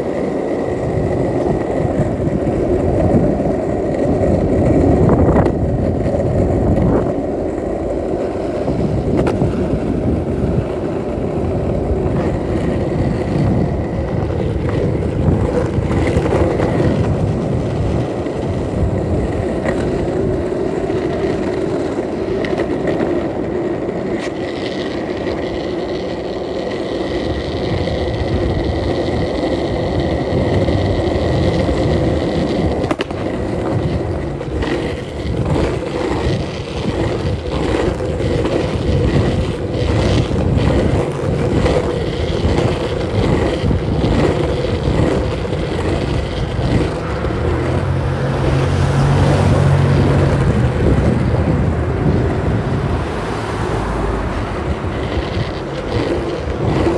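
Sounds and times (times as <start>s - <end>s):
sharp clicks from road bumps: 0.0s - 56.9s
skateboard wheels rolling on asphalt: 0.0s - 56.9s.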